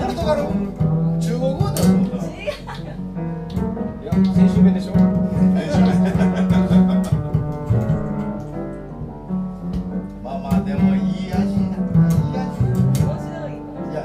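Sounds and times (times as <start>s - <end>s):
double bass plucked: 0.0s - 14.0s
piano chords: 0.0s - 14.0s.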